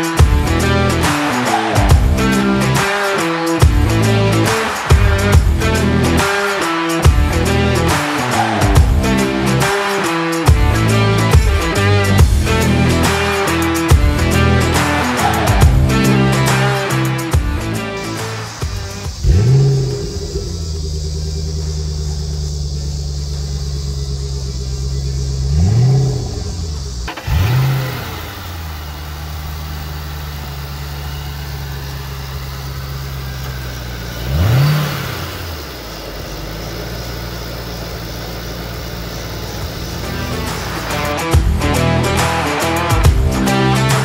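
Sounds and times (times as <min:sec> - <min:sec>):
car engine idling: 0:00.0 - 0:44.0
engine revving: 0:00.0 - 0:44.0.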